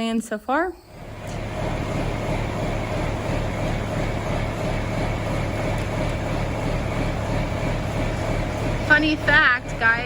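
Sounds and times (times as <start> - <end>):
tractor diesel engine running: 0.8 - 10.0.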